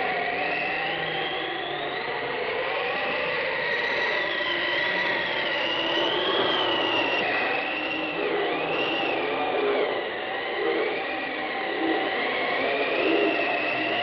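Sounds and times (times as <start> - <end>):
high wavering whistling tone: 0.0 - 14.0
whirring rush of noise: 0.0 - 14.0.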